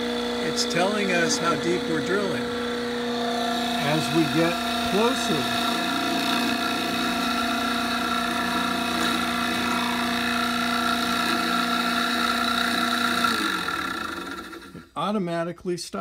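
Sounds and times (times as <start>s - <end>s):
drill press motor whine: 0.0s - 14.9s.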